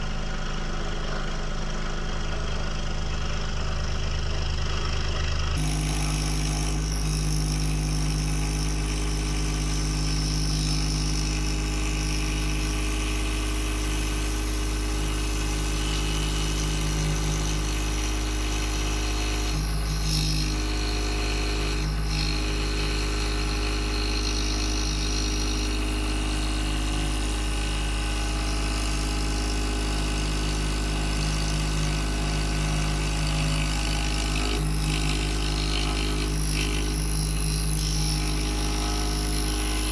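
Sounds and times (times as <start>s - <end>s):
scroll saw cutting wood: 4.3s - 39.9s.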